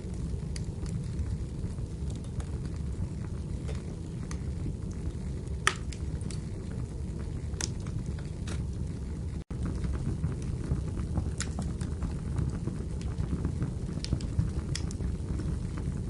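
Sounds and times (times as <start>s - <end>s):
low fire rumble: 0.0s - 16.0s
wood fire crackling: 0.0s - 16.0s.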